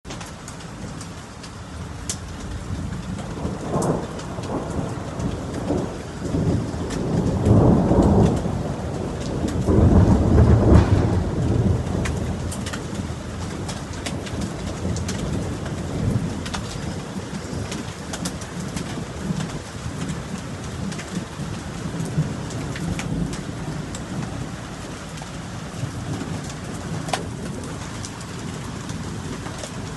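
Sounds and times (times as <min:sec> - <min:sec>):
steady rain falling: 0:00.0 - 0:29.9
thunder rumbling: 0:00.5 - 0:29.9.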